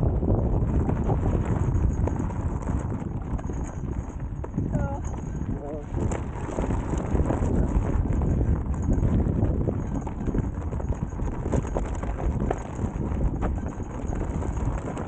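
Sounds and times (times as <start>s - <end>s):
tyre rolling over gravel: 0.0s - 15.0s
wind rumble on microphone: 0.0s - 15.0s.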